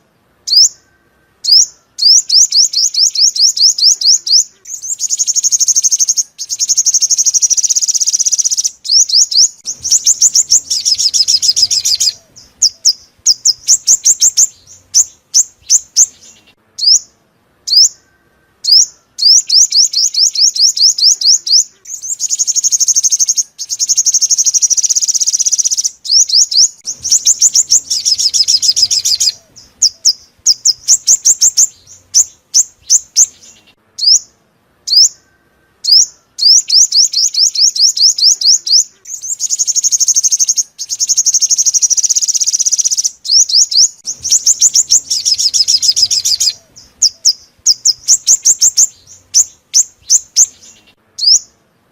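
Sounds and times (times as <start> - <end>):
bird song with trills: 0.0 - 51.9.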